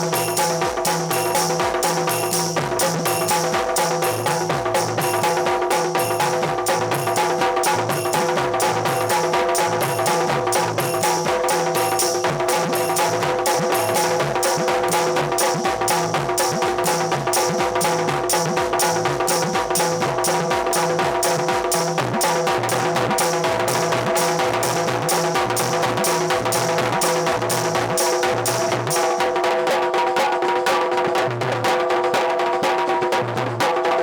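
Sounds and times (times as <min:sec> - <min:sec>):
held melody notes: 0:00.0 - 0:29.4
fast drum beat: 0:00.0 - 0:34.0.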